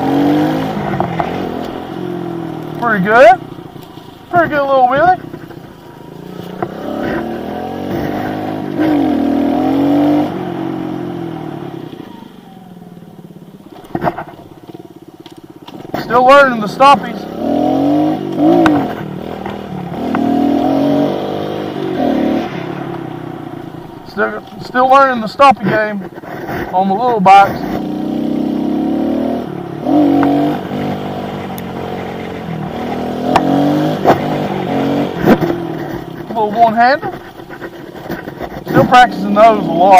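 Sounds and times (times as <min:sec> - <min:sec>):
small motorbike engine revving: 0:00.0 - 0:26.8, 0:27.4 - 0:39.9.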